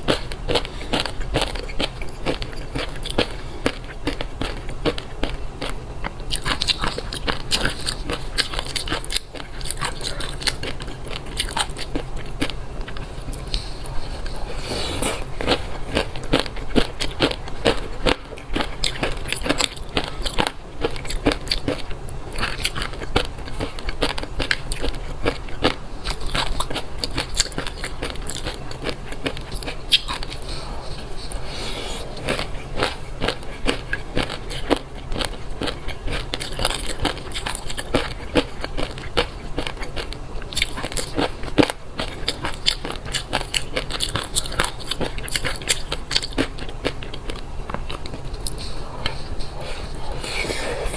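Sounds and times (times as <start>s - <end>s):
chewing fish roe: 0.0s - 50.9s.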